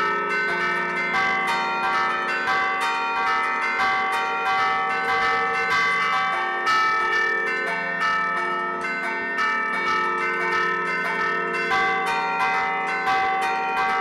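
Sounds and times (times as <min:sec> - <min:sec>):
church bells ringing a tune: 0:00.0 - 0:14.0.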